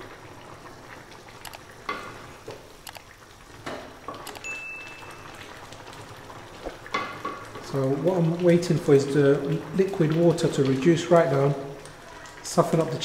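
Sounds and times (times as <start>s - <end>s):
curry simmering and bubbling: 0.0s - 4.2s, 4.8s - 13.0s.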